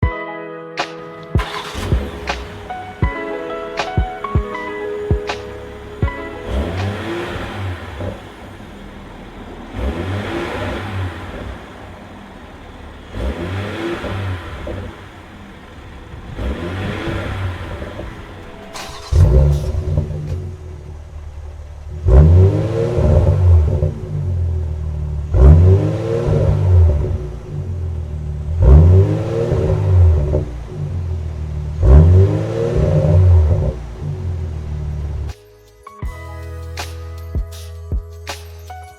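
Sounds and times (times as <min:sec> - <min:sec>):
engine revving through exhaust: 0:01.4 - 0:03.0, 0:04.9 - 0:35.3
low exhaust rumble: 0:01.4 - 0:35.3.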